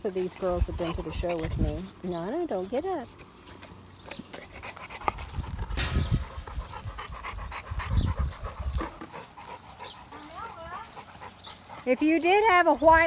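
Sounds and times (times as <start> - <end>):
dogs panting heavily: 0.0 - 13.0.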